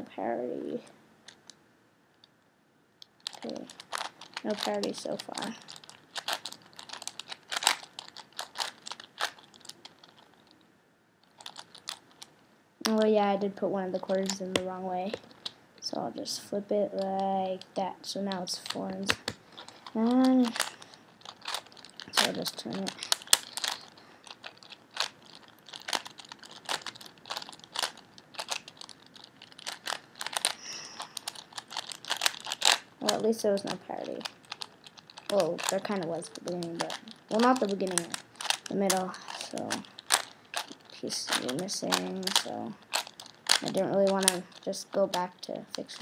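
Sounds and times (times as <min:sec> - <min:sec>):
puzzle cube plastic clicks: 0:03.0 - 0:10.6, 0:11.2 - 0:12.3, 0:13.9 - 0:15.6, 0:17.0 - 0:46.0.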